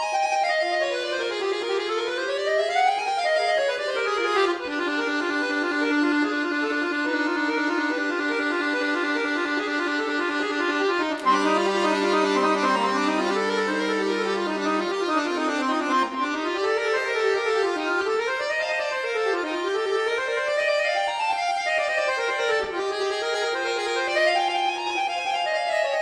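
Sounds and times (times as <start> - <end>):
solo accordion classical music: 0.0 - 26.0.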